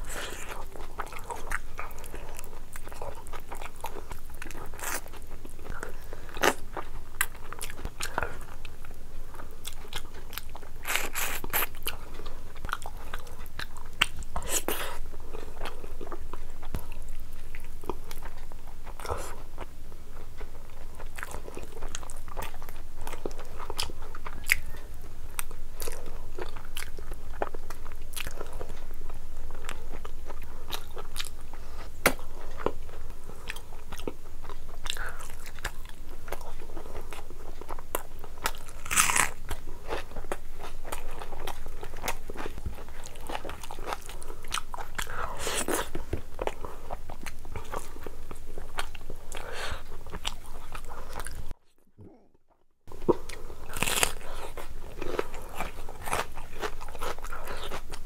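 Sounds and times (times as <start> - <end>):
person chewing and lip-smacking: 0.0 - 28.9, 32.0 - 52.3, 52.9 - 58.0.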